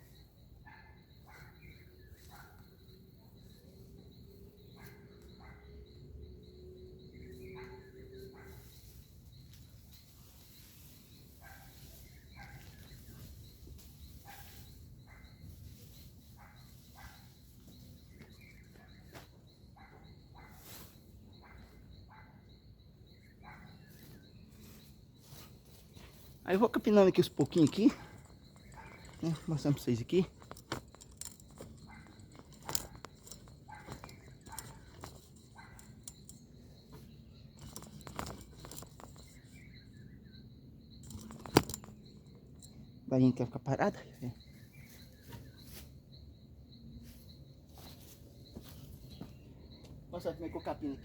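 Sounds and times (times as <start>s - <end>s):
bird chirps: 0.0s - 51.0s.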